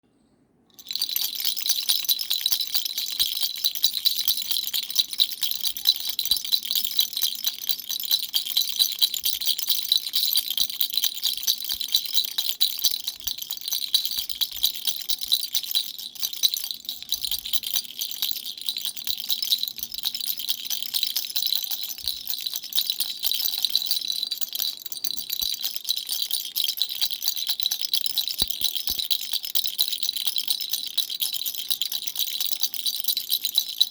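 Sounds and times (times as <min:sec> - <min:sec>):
toy rattle jingling: 0:00.8 - 0:33.9.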